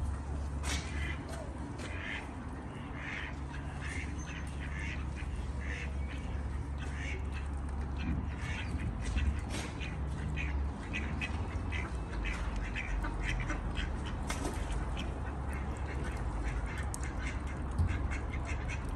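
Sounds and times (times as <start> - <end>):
steady low rumble: 0.0 - 18.9
ducks quacking: 0.1 - 18.9.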